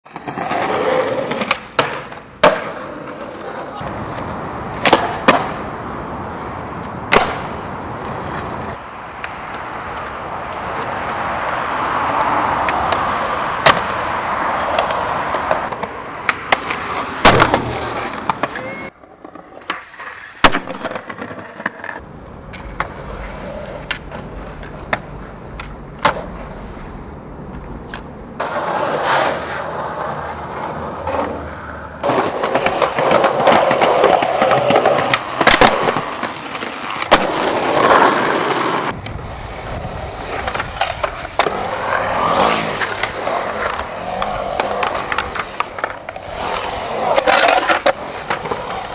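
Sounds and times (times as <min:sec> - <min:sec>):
skateboard rolling on concrete: 0:00.0 - 0:48.9
skateboard clacks: 0:00.1 - 0:05.7, 0:06.3 - 0:48.9.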